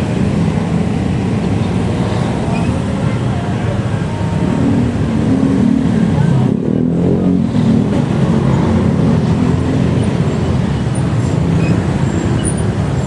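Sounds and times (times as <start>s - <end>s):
traffic: 0.0s - 13.0s
wind and road noise: 0.0s - 13.0s.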